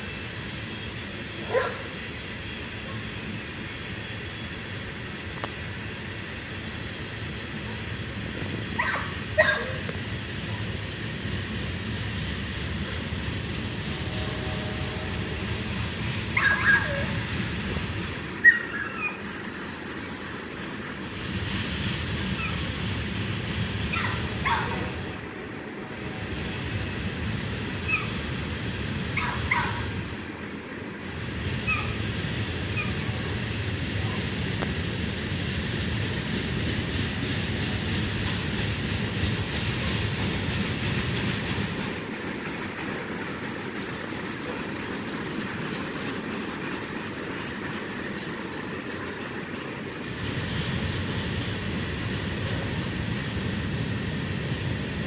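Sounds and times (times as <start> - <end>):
distant freight train rumbling: 0.0 - 55.0.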